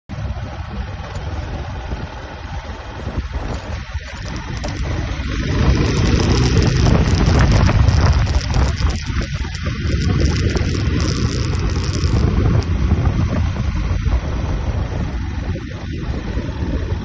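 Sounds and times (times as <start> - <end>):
moving vehicle rumble: 0.1 - 17.0
wind buffeting microphone: 0.1 - 17.0.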